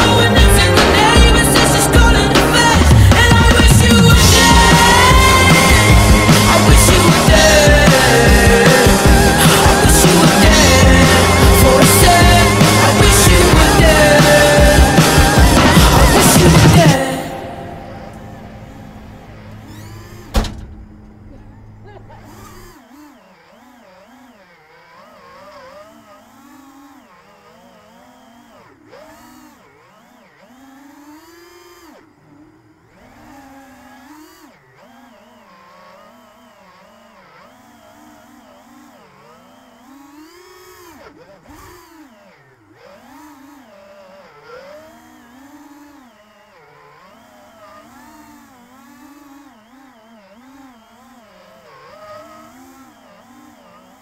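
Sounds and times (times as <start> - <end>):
quadcopter propellers whining: 0.0 - 54.0.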